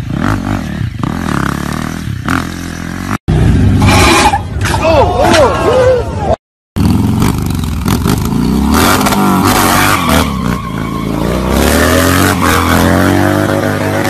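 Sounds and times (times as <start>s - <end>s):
motorcycle engine revving: 0.0s - 4.5s, 6.8s - 14.0s.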